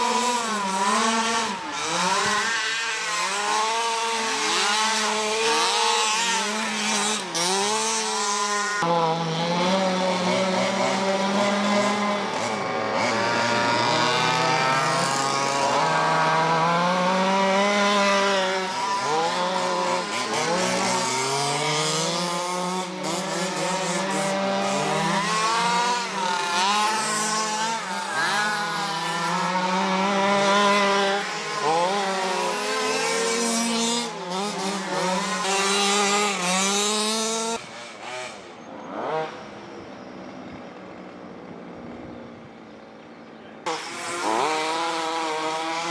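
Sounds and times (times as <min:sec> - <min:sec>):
small two-stroke engines revving: 0:00.0 - 0:45.9.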